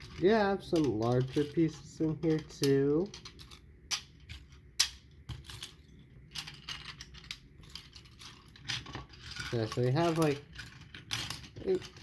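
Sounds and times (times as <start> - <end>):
plastic pieces clicking and clattering: 0.0 - 12.0.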